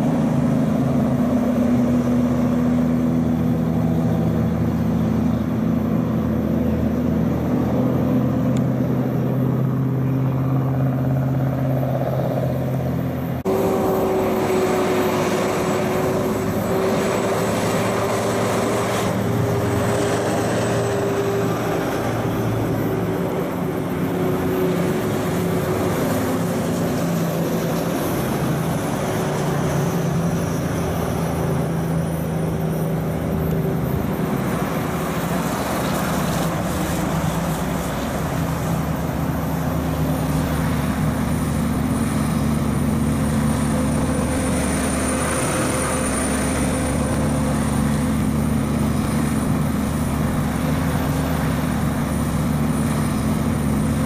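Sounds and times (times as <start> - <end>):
diesel trucks driving past: 0.0 - 54.0.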